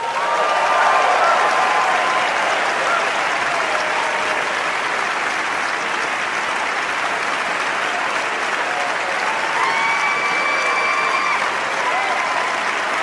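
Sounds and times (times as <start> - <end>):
held pitched cheer: 0.0 - 6.3, 7.0 - 13.0
audience applauding: 0.0 - 13.0.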